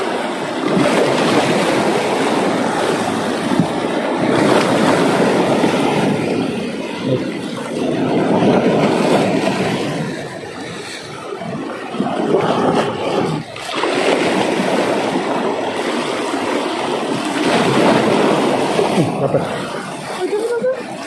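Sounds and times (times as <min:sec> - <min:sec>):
waves splashing over rocks: 0:00.0 - 0:21.0.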